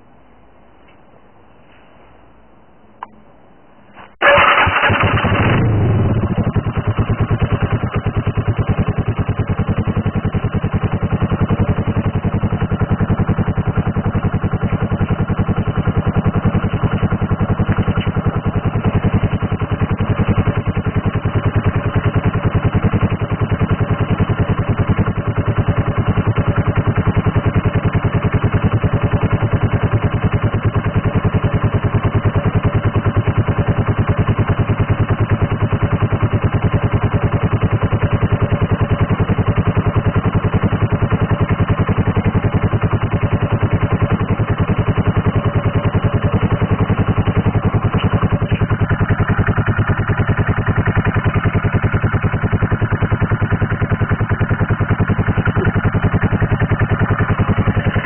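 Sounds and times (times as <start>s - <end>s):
motorcycle engine idling: 2.9s - 58.0s.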